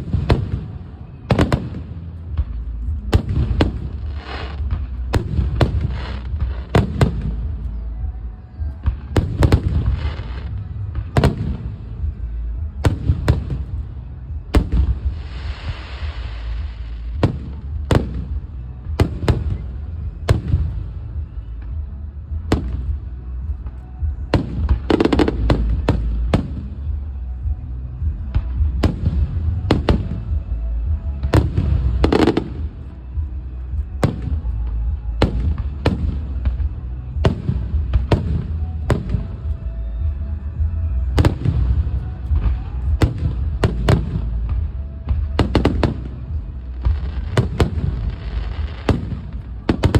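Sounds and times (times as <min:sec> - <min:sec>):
fireworks crackling: 0:00.0 - 0:49.9
low rumble: 0:00.0 - 0:49.9.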